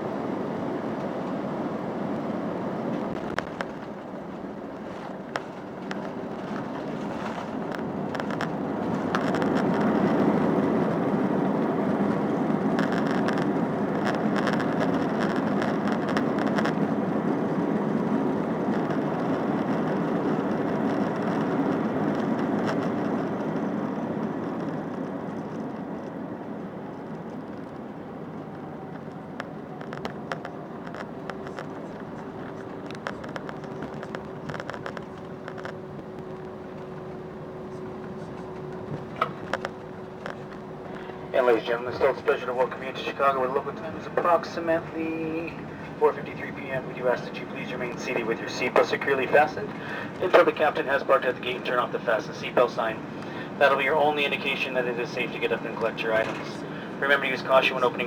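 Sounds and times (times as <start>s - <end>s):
aircraft engine roar in cabin: 0.0s - 58.0s.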